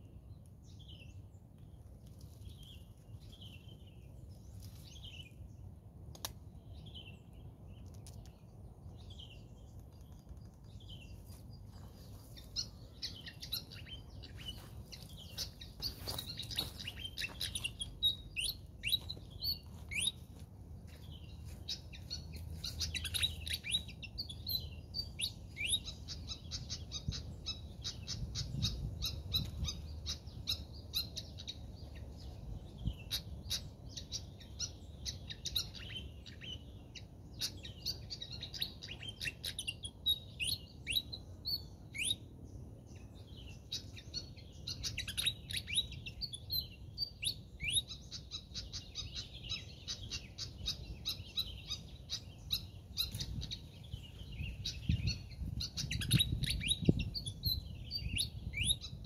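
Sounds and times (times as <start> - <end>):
songbirds chipping and whistling: 0.0 - 59.0.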